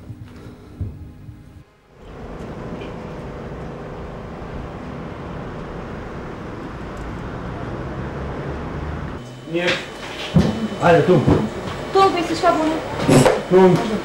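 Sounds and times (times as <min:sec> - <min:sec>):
traffic rumble: 0:01.3 - 0:14.0.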